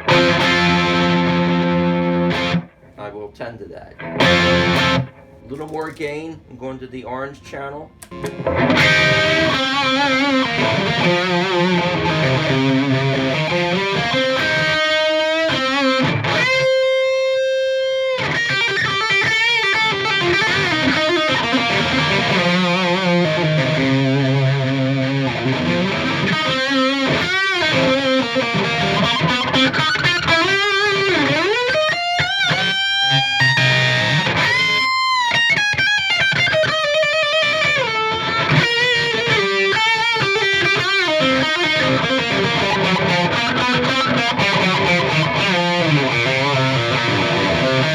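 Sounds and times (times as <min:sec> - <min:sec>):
overdriven electric guitar lead: 0:00.0 - 0:02.9, 0:04.0 - 0:05.9, 0:07.9 - 0:47.9.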